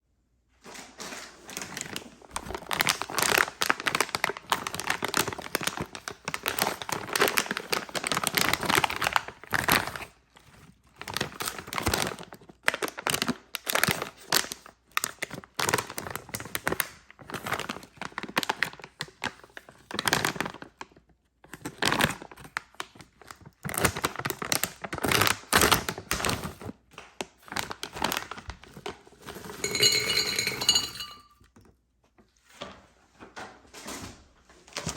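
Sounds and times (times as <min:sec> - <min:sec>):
wrappers crinkling and tearing: 0:00.9 - 0:29.6.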